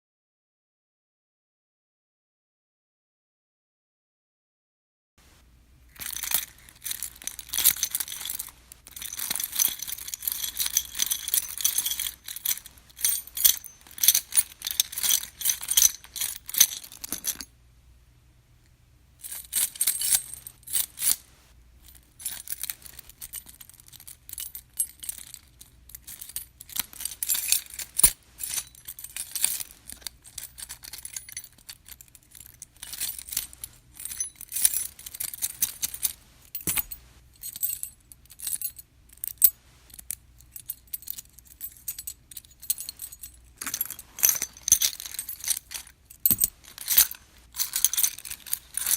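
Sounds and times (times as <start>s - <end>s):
metal keys jangling: 5.9s - 17.5s, 19.3s - 21.3s, 21.9s - 48.9s.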